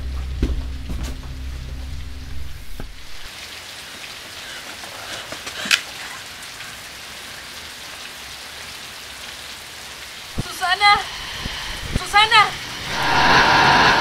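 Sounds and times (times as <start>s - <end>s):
heavy rain falling: 0.2s - 14.0s.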